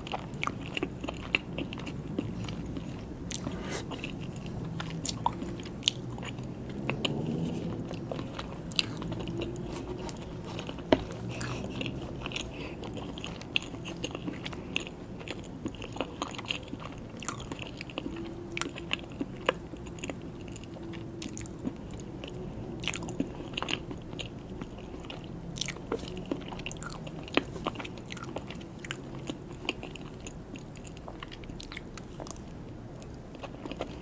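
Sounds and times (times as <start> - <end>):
person chewing soft cake: 0.0 - 34.0.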